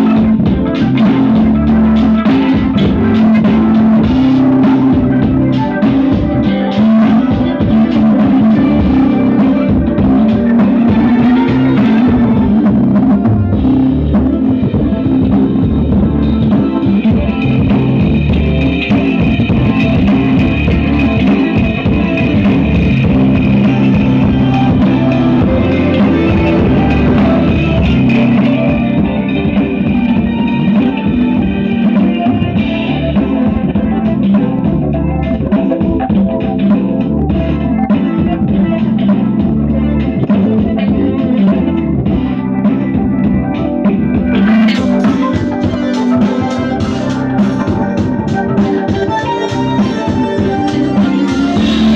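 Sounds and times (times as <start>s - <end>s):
loud rock music with heavy bass: 0.0s - 51.9s.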